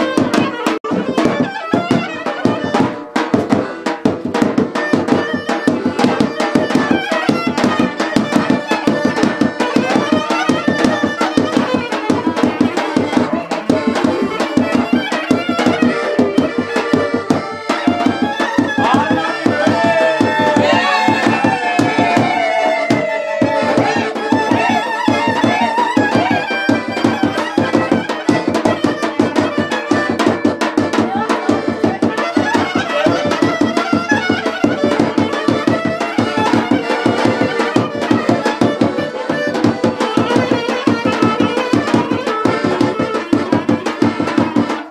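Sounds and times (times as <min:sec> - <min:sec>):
fast hand drum beat: 0:00.0 - 0:44.9
ornamented melodic lead: 0:00.0 - 0:44.9.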